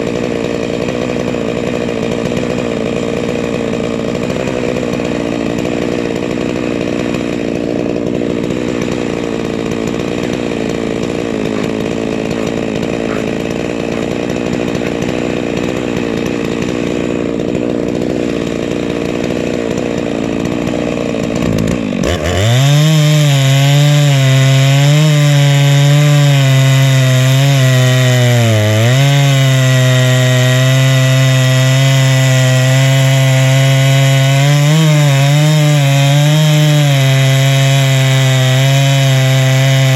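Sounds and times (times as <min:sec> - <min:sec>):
chainsaw sawing through log: 0:00.0 - 0:39.9.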